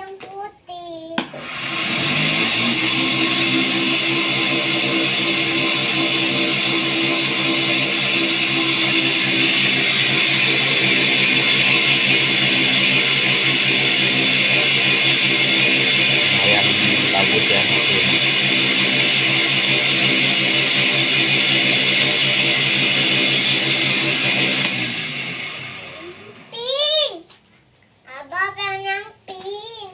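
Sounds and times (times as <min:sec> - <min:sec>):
electric motor humming: 0:01.2 - 0:26.5.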